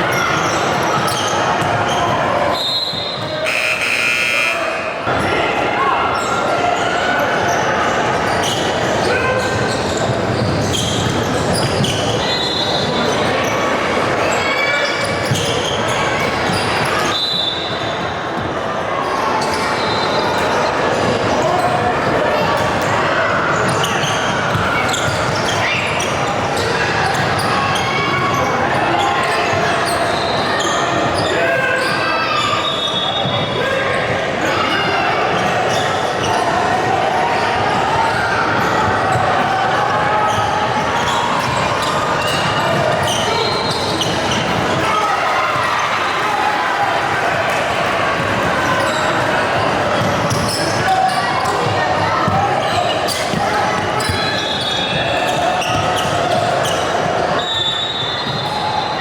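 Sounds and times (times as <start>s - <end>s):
spectators' voices: 0.0s - 59.0s.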